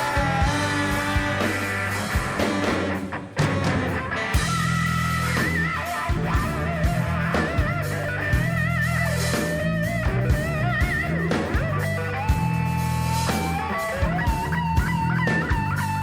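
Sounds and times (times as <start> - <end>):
bass line: 0.0 - 16.0
electric guitar lead with vibrato: 0.0 - 16.0.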